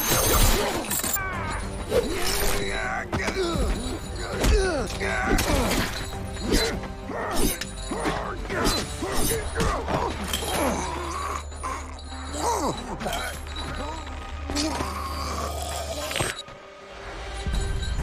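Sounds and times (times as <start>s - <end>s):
background music: 0.0s - 18.0s
grunts and pained cries: 1.1s - 16.4s.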